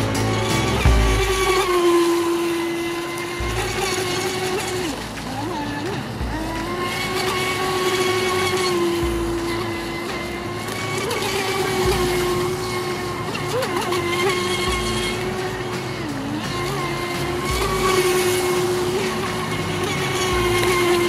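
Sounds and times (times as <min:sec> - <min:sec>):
rc boat motor whining: 0:00.0 - 0:21.0.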